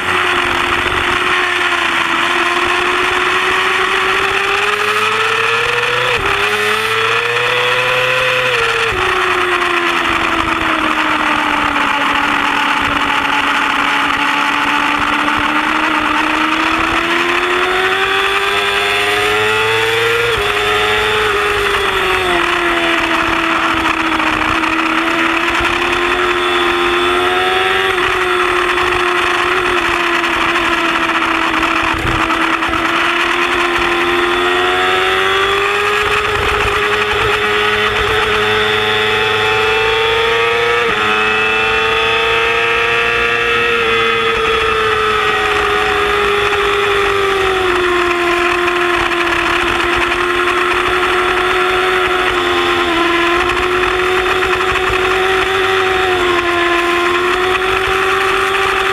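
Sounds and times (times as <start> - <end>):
motorcycle engine running hard: 0.0 - 58.9
rush of wind: 0.0 - 58.9.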